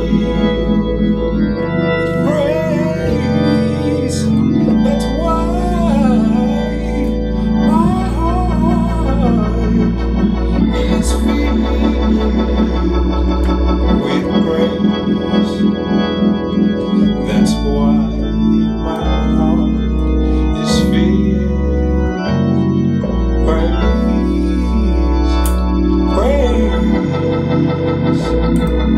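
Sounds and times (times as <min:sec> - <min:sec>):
organ playing chords: 0:00.0 - 0:28.9.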